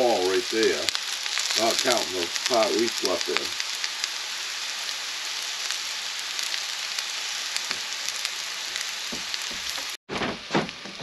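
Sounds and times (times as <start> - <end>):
food sizzling in a skillet: 0.0 - 10.0.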